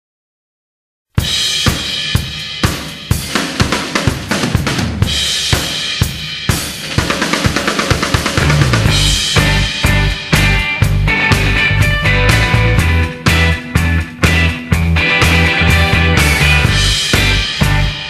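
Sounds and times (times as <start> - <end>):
pop-rock drum kit: 1.1 - 18.0.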